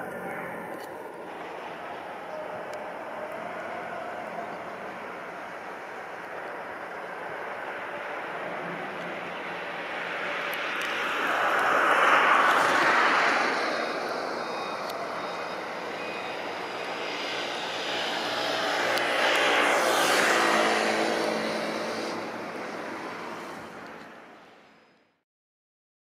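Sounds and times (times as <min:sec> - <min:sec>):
motor vehicle passing: 0:00.0 - 0:24.3
faint engine hum: 0:00.0 - 0:25.0.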